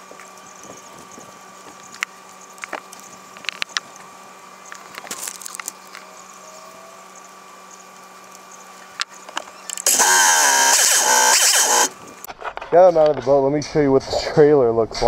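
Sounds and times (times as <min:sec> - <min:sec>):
faint steady hum: 0:00.0 - 0:12.3.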